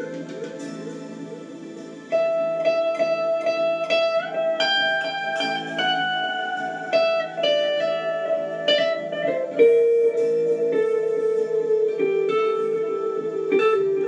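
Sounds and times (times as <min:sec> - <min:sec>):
electric guitar slow melody: 0:00.0 - 0:14.0.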